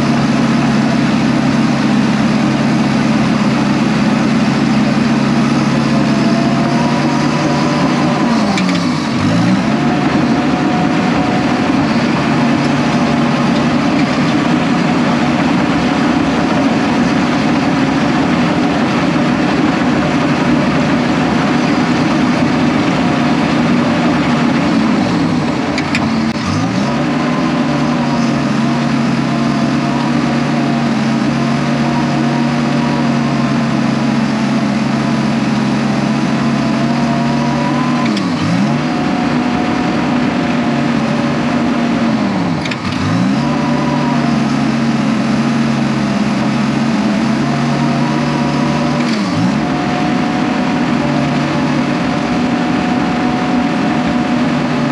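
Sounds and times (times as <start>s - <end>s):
diesel engine lugging under load: 0.0s - 54.9s.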